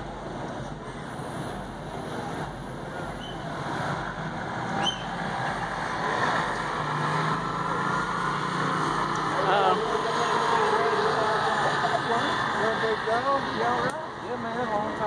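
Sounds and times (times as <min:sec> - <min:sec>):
motorcycle engines accelerating: 0:01.4 - 0:15.0.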